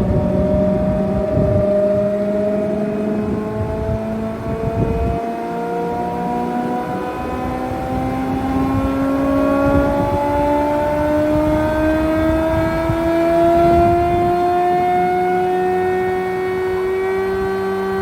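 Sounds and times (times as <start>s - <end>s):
thicknesser machine whine: 0.0s - 18.0s.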